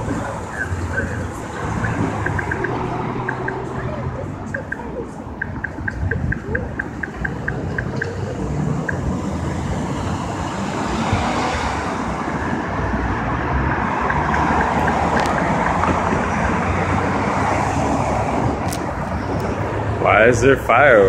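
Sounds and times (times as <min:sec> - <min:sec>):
cars passing on road: 0:00.0 - 0:21.0.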